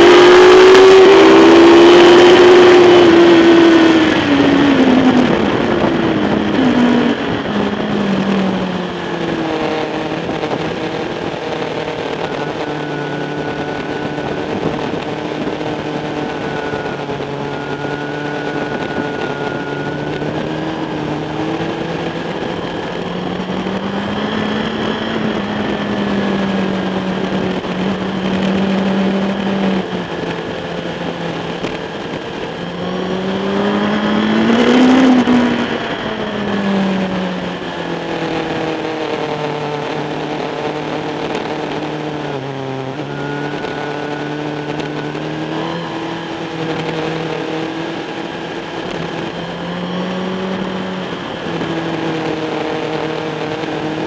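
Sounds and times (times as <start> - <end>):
motorcycle engine shifting gears: 0.0 - 54.0
wind rush: 0.0 - 54.0.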